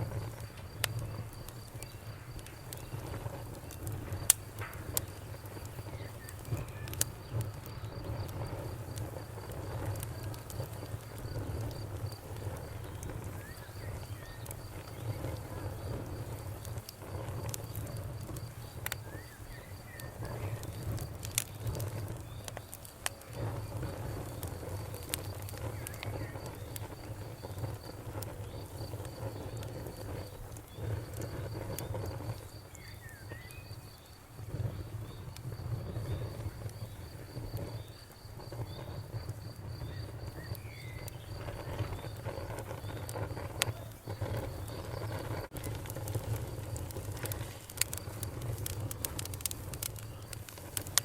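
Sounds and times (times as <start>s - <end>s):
bonfire crackling and popping: 0.0s - 51.0s
cricket chirping: 0.0s - 51.0s.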